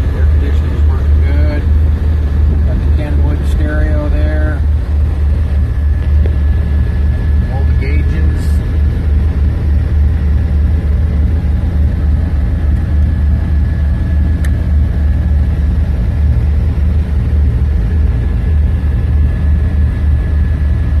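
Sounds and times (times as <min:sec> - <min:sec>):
car engine low rumble: 0:00.0 - 0:21.0
high whine: 0:00.0 - 0:21.0.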